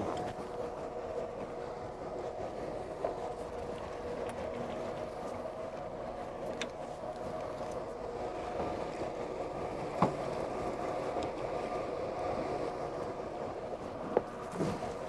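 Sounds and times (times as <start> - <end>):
light clicks of mooring line: 2.2 - 15.0.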